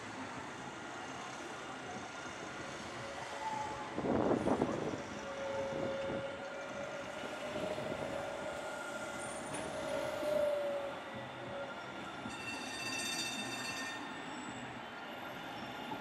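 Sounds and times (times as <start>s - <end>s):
tram high whine: 0.0s - 16.0s
tram rumbling clatter on rails: 0.0s - 16.0s.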